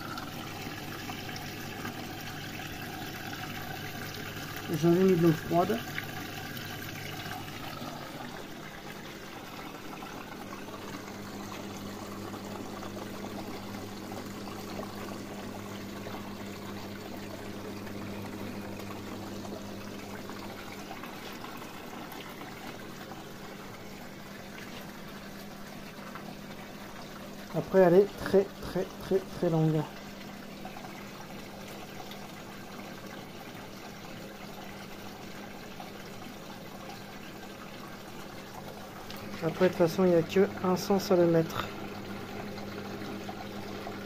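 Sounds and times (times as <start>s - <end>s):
low electrical hum: 0.0s - 44.0s
water rushing and trickling: 0.0s - 44.0s.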